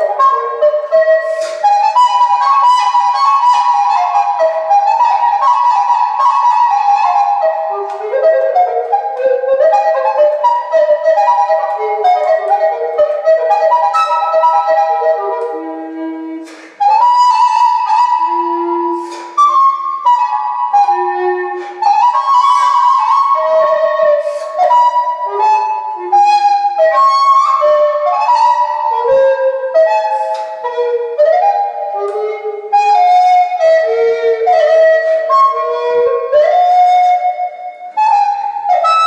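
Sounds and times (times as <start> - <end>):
recorder playing classical melody: 0.0 - 39.0.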